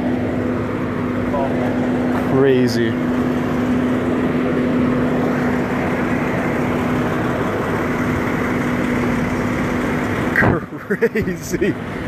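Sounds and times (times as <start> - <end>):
motor droning: 0.0 - 11.3.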